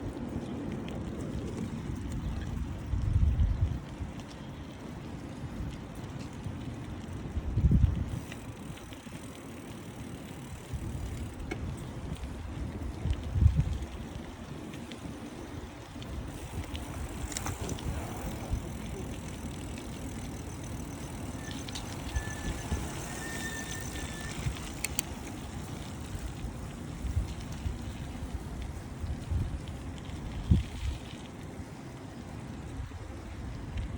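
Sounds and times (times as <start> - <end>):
bicycle riding rumble: 0.0 - 33.9
wind buffeting microphone: 0.0 - 33.9.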